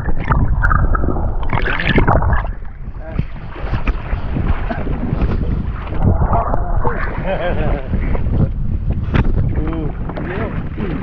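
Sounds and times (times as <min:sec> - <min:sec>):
waves splashing around boat: 0:00.0 - 0:11.0
wind buffeting microphone: 0:00.0 - 0:11.0.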